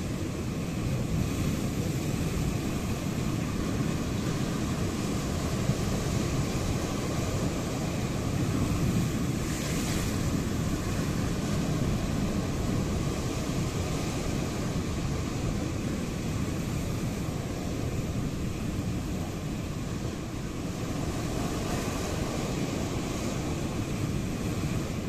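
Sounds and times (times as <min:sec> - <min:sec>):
sea waves rushing surf: 0:00.0 - 0:25.0.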